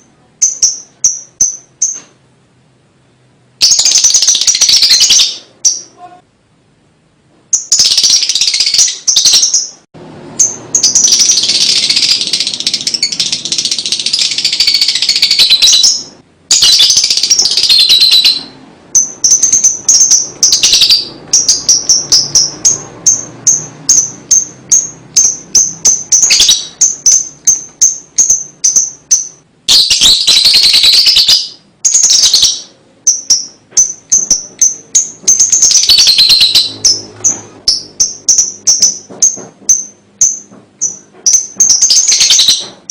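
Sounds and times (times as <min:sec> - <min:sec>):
sharp high bird chirps: 0:00.4 - 0:02.1, 0:03.6 - 0:06.0, 0:07.5 - 0:42.9
bird chattering trills: 0:03.6 - 0:06.2, 0:07.5 - 0:09.8, 0:10.4 - 0:42.9.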